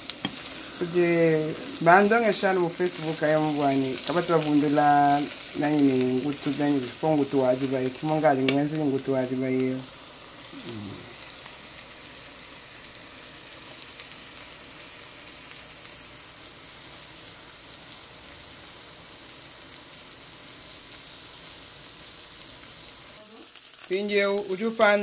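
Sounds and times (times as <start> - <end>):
fish and onions sizzling in oil: 0.0 - 25.0.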